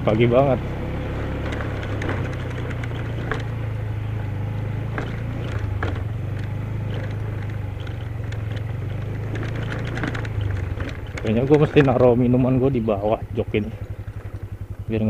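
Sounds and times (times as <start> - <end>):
scooter engine cruising: 0.0 - 15.0.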